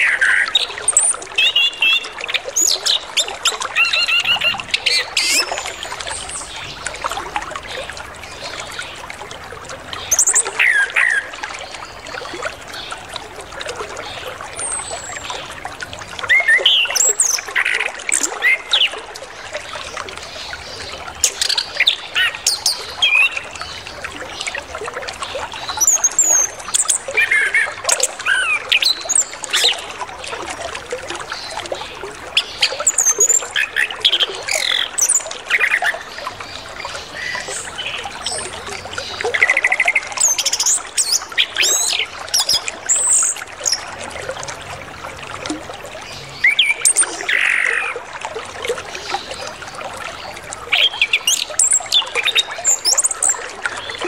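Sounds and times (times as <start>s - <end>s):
trickle of running water: 0.0s - 54.0s.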